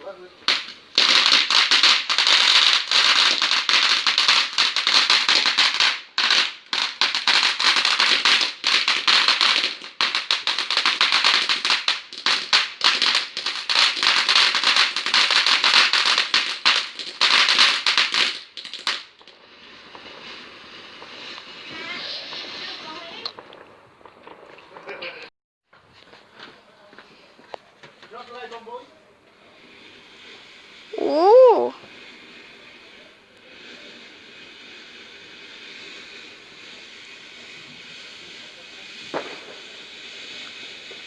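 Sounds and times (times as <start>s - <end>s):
fireworks crackling and popping: 0.0s - 41.0s.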